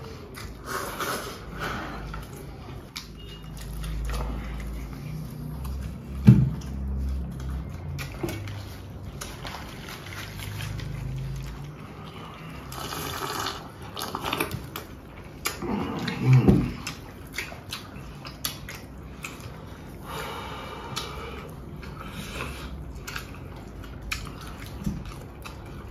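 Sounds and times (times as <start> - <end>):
wet mouth eating noises: 0.0 - 25.9.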